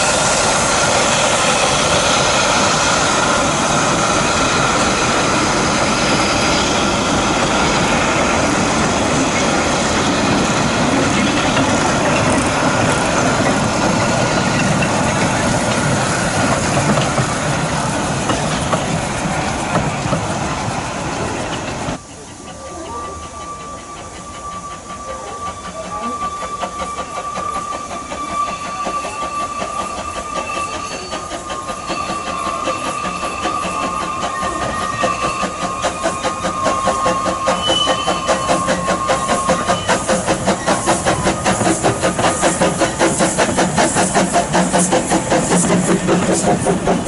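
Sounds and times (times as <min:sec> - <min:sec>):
steam locomotive running: 0:00.0 - 0:47.0.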